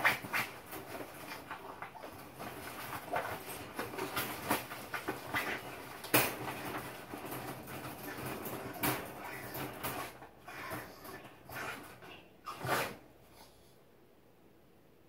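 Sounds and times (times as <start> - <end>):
wire crate rattling and clicking: 0.0 - 12.8.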